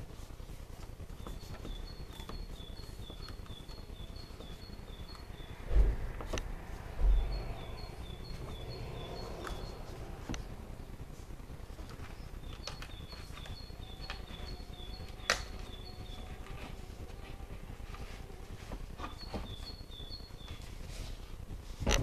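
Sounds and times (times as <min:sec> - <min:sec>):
bird chirping: 0:01.0 - 0:16.8, 0:18.9 - 0:20.8.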